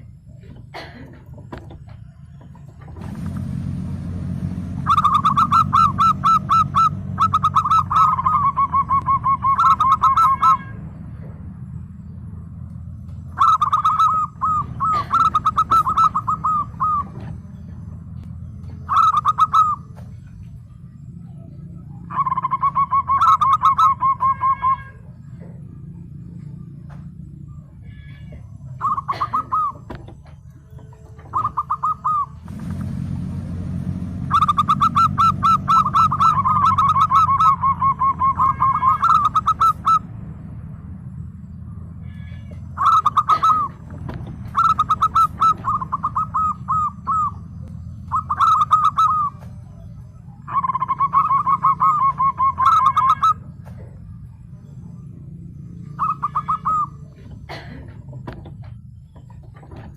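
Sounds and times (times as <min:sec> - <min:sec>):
dove cooing song: 0:00.0 - 0:59.9.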